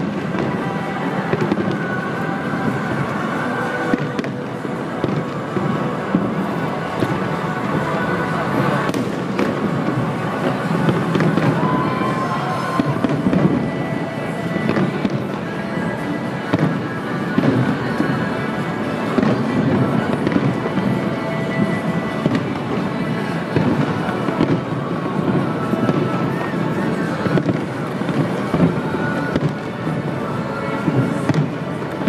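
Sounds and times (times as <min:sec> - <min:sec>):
music playing: 0:00.0 - 0:32.0.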